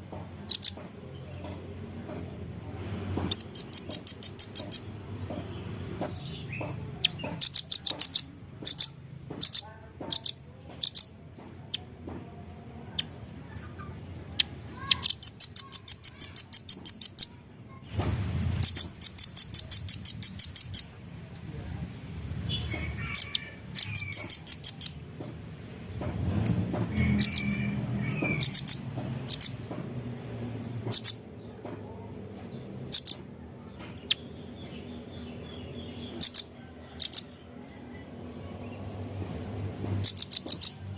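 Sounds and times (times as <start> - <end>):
bird high chipping calls: 0.4 - 1.5, 2.6 - 11.9, 12.9 - 17.4, 18.4 - 21.0, 21.6 - 25.1, 26.9 - 40.9.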